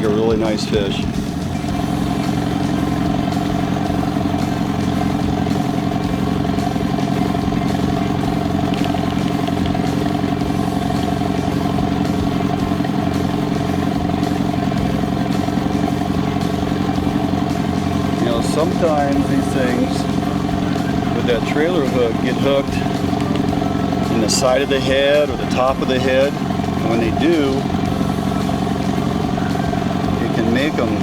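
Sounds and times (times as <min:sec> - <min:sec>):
boat motor droning: 0:00.0 - 0:31.0.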